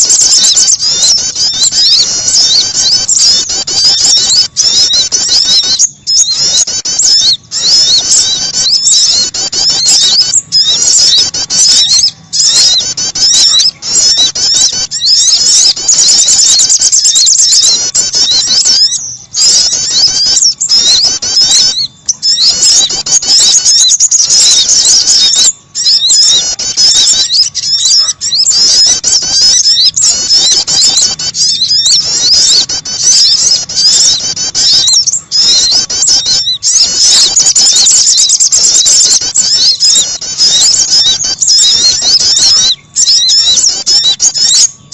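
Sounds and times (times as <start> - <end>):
recorded songbird chirps and trills: 0.0 - 44.9.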